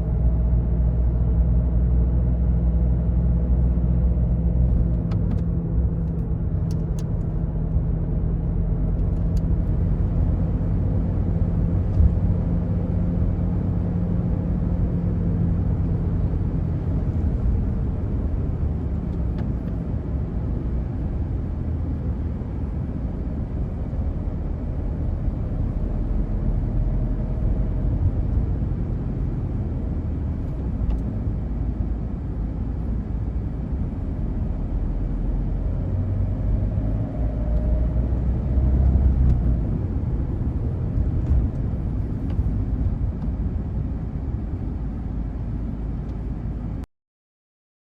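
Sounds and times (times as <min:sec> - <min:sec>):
car engine hum: 0:00.0 - 0:46.8.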